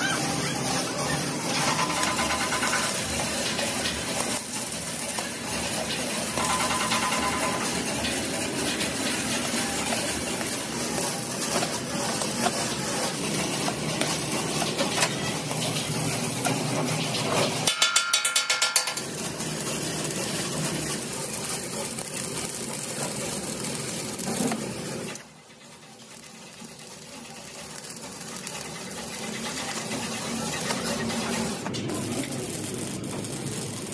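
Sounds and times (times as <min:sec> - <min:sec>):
welding arc crackling: 0:00.0 - 0:33.9.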